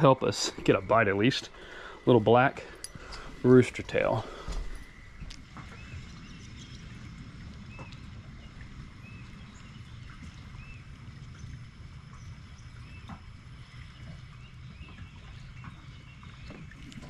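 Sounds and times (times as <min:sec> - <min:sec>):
wind rumble on microphone: 0:02.8 - 0:17.0.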